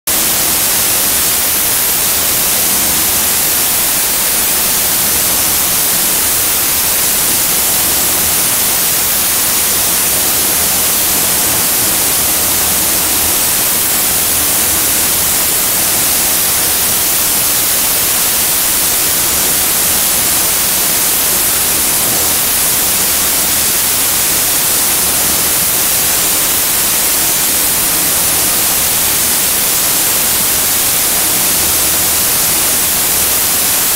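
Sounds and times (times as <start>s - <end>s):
paint spray gun hissing: 0.1s - 33.8s.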